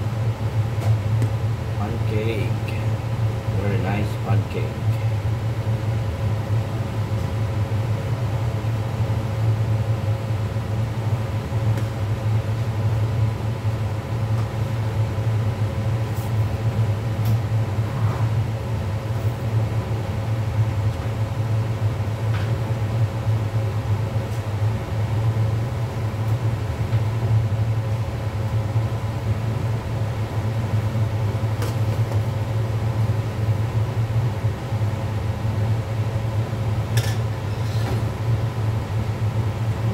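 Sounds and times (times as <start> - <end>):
kitchen equipment humming: 0.0 - 39.9.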